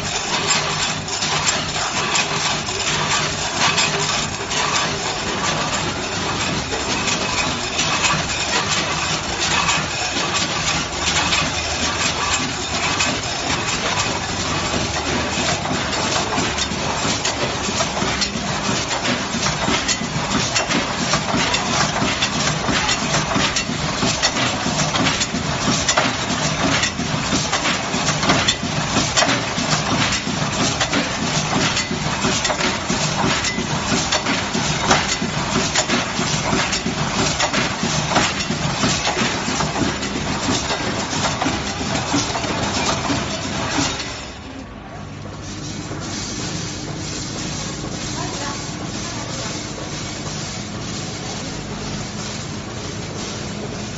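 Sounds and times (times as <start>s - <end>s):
packing machine clattering: 0.0s - 44.6s.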